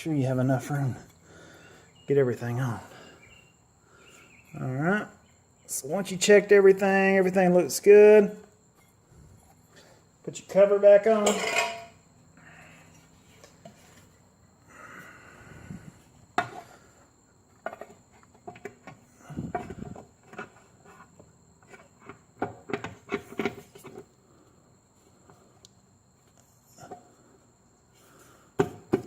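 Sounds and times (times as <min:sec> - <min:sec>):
faint high-pitched whine: 0:00.0 - 0:29.0.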